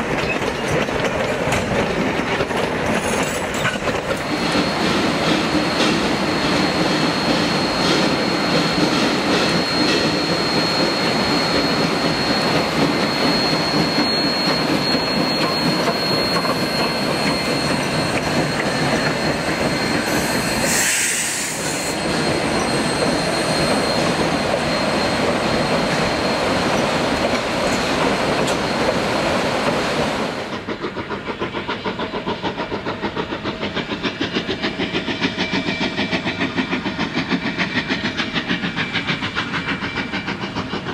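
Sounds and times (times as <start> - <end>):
train wheels clattering on rail joints: 0.0 - 29.8, 30.4 - 40.9
high wheel squeal: 0.0 - 40.9
steam locomotive exhaust beating: 0.0 - 40.9.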